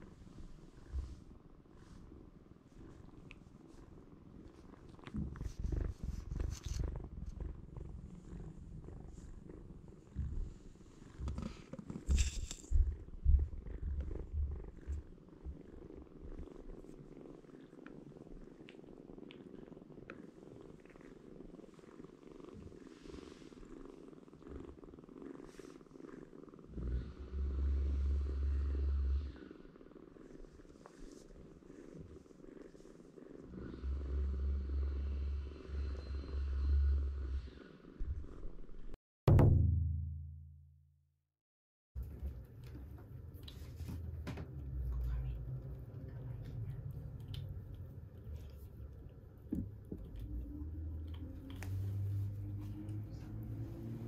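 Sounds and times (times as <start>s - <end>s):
kitten purring: 0.0s - 39.0s, 42.0s - 54.0s.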